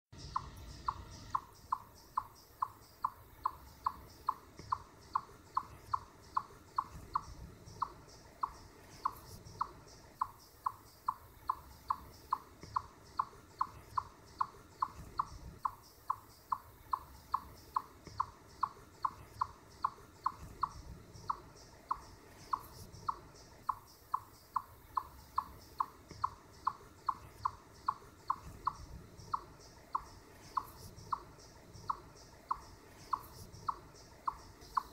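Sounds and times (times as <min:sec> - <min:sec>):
chipmunk chip alarm call: 0:00.2 - 0:34.9.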